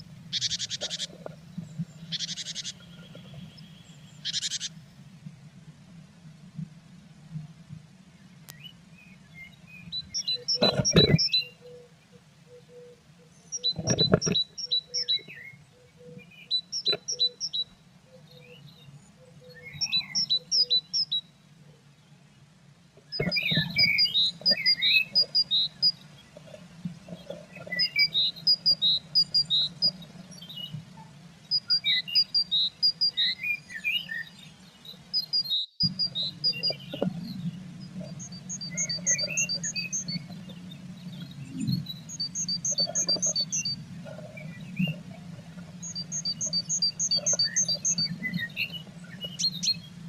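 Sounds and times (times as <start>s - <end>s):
birds chirping: 0.0s - 5.1s, 8.2s - 50.0s
low steady hum: 0.0s - 50.0s.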